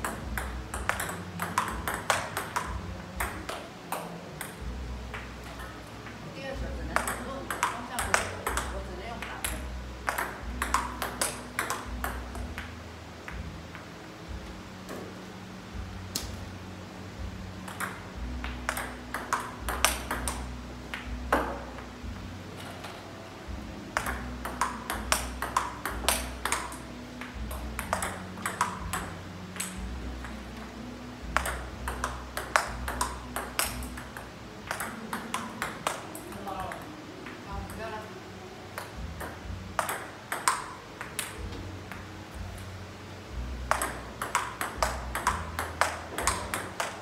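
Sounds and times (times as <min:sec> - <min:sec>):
table tennis balls clicking: 0:00.0 - 0:13.9, 0:17.6 - 0:21.9, 0:22.5 - 0:38.0, 0:38.7 - 0:42.7, 0:43.6 - 0:47.0
steady low hum: 0:00.0 - 0:47.0.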